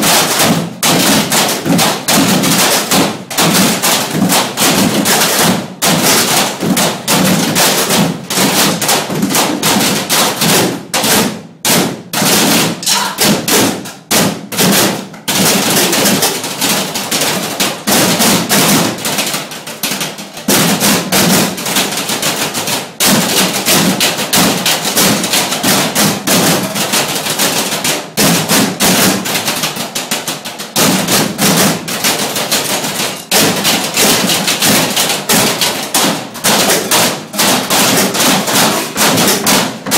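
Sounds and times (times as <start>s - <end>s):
drumming on metal trash cans: 0.0s - 39.9s.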